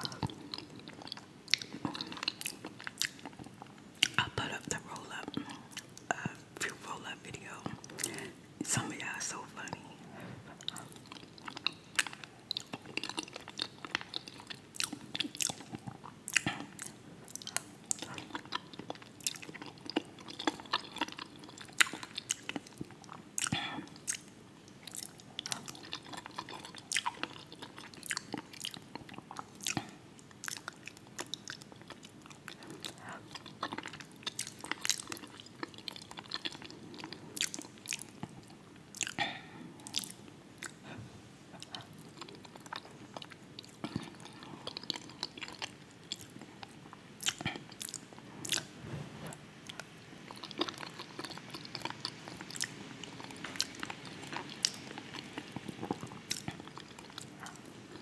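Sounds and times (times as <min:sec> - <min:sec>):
close chewing of soft food: 0:00.0 - 0:58.0.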